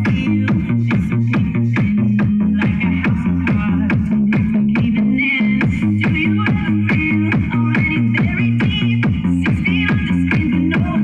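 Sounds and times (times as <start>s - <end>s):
loud electronic dance music: 0.0s - 11.0s.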